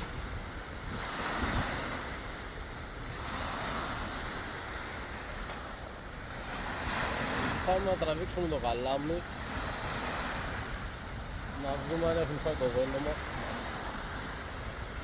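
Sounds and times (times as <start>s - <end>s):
sea waves washing onto shore: 0.0s - 15.0s
wind rumbling on microphone: 0.0s - 15.0s.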